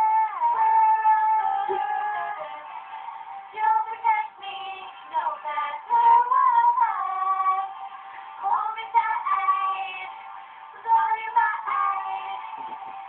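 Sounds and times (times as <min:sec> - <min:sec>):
women singing: 0:00.0 - 0:02.8, 0:03.5 - 0:07.8, 0:08.4 - 0:10.2, 0:10.8 - 0:13.0.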